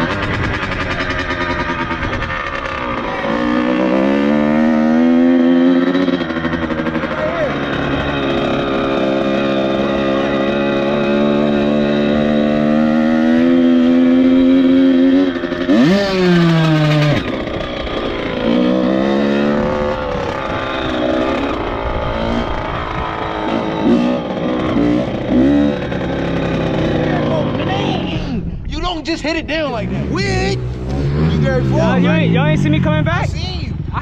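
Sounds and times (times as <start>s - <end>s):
dirt bike engine revving: 0.0s - 28.6s, 29.4s - 34.0s.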